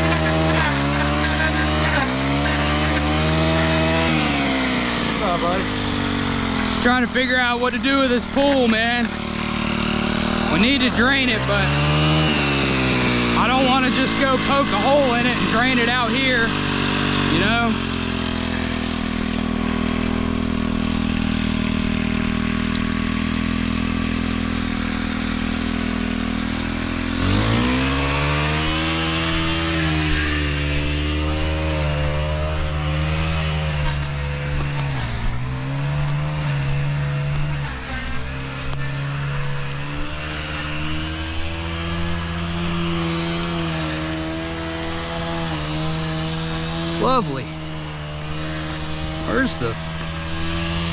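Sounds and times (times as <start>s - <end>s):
gas engine idling and revving: 0.0s - 50.9s.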